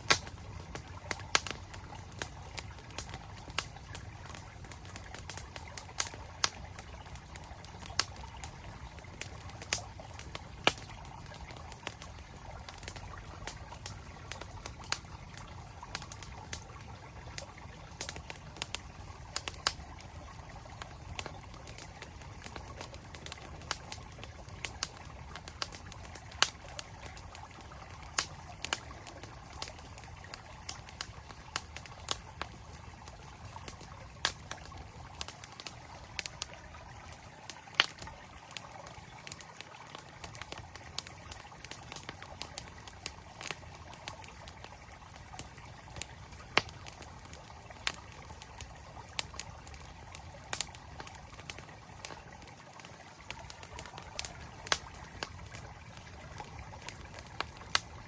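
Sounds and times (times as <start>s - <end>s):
campfire crackling: 0.0s - 58.0s
flowing stream: 0.0s - 58.0s.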